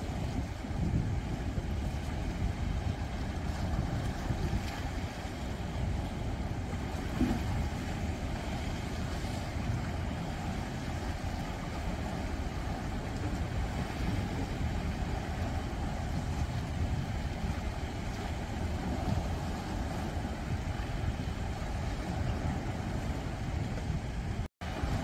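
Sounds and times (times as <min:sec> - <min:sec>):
waves washing against rocks: 0:00.0 - 0:25.0.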